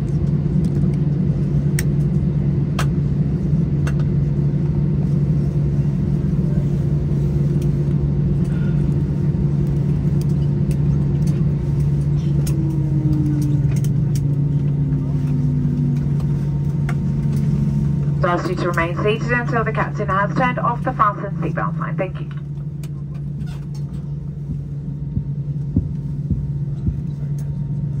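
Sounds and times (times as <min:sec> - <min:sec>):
aircraft engine hum and rumble: 0:00.0 - 0:28.0.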